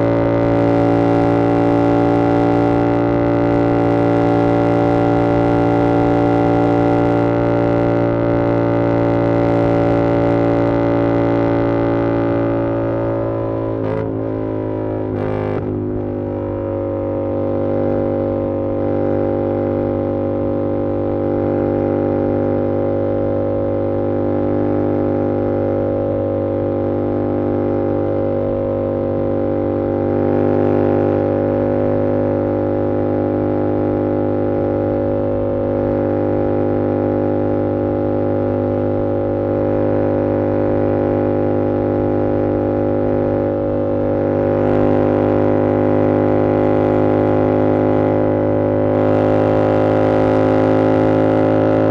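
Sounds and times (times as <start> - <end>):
motorcycle engine droning: 0.0 - 51.9.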